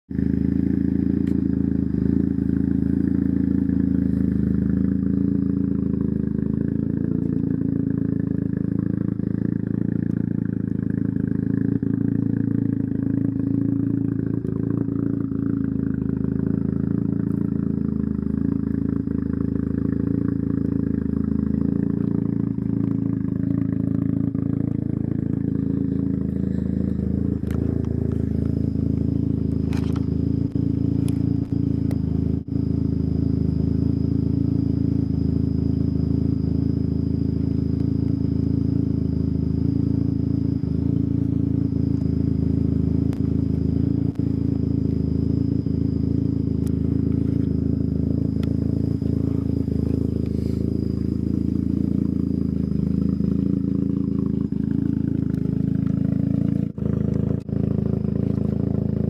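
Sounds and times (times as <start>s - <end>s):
rotary engine idling: 0.1s - 59.0s.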